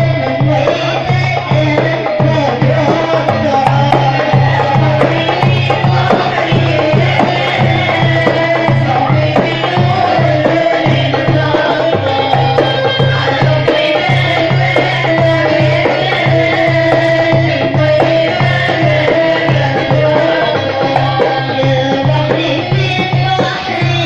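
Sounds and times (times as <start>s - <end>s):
folk band melody: 0.0s - 24.0s
steady drum beat: 0.0s - 24.0s.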